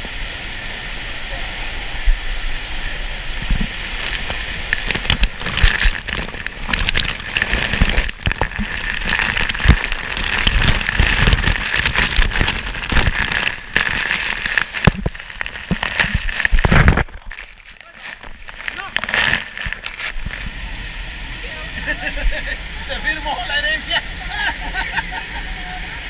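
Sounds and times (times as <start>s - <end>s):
crackling splashes: 0.0s - 24.8s
waterfall rushing hiss: 0.0s - 26.0s.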